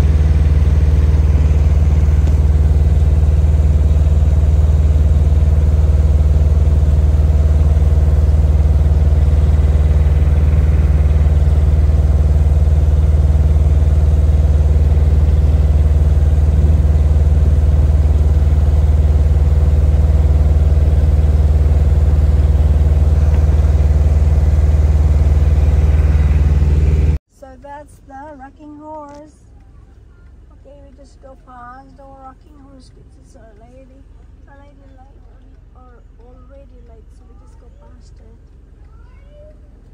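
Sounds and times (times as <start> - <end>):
ferry engine droning: 0.0 - 39.9.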